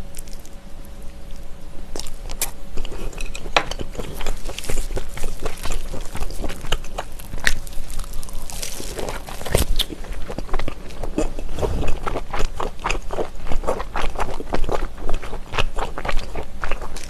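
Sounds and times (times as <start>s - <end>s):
biting and chewing meat: 0.0s - 17.0s.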